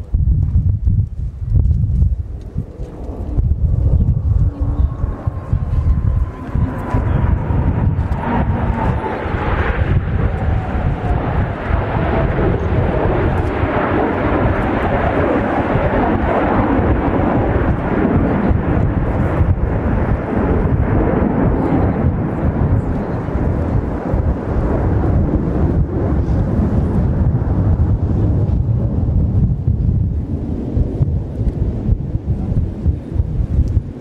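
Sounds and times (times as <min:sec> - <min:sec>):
jet aircraft roaring overhead: 0:00.0 - 0:34.0.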